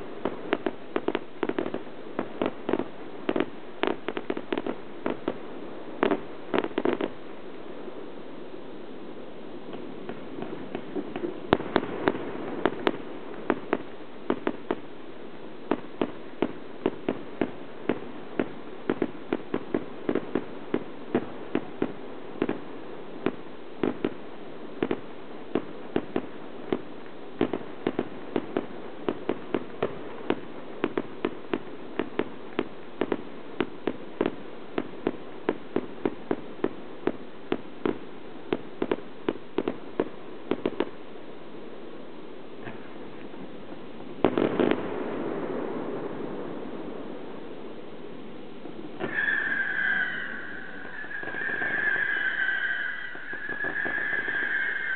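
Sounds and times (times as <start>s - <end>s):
fireworks banging: 0.0s - 7.2s, 9.7s - 14.9s, 15.6s - 24.2s, 24.8s - 41.0s, 44.2s - 47.0s, 48.9s - 54.9s.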